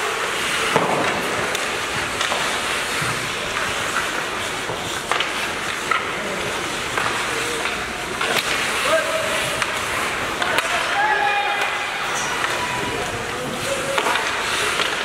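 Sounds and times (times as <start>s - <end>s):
hockey sticks and puck clacking: 0.0s - 15.0s
rink noise: 0.0s - 15.0s.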